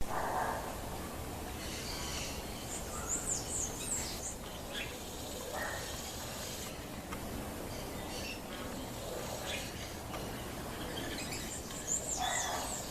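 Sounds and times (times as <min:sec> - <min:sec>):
birds chirping: 0:00.0 - 0:12.9
low background hiss: 0:00.0 - 0:12.9.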